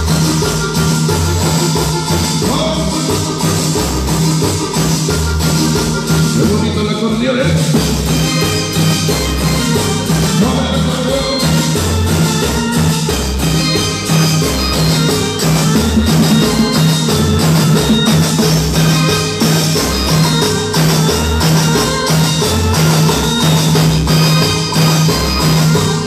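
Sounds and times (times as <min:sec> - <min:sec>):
latin dance music: 0:00.0 - 0:26.0.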